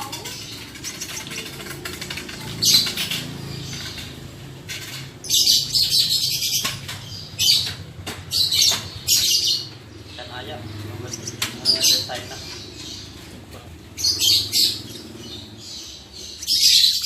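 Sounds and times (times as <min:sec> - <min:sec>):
birds giving raspy chattering calls: 0:00.0 - 0:17.0.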